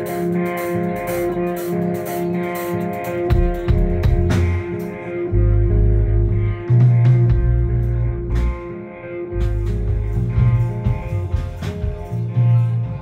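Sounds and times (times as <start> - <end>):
bass guitar and drums: 0.0 - 13.0
electric guitars ringing: 0.0 - 13.0.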